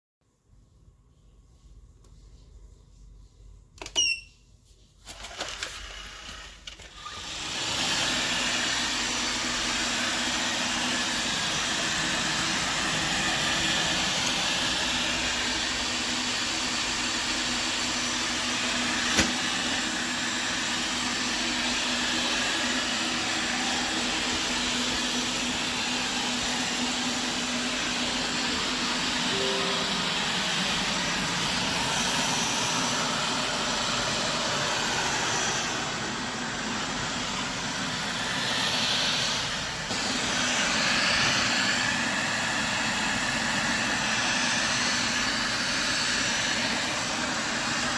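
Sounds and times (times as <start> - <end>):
robot vacuum cleaner whirring: 5.1 - 47.9.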